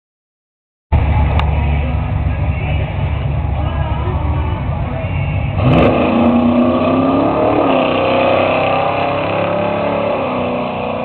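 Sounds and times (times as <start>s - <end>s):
racing car engines at full throttle: 1.0s - 11.0s.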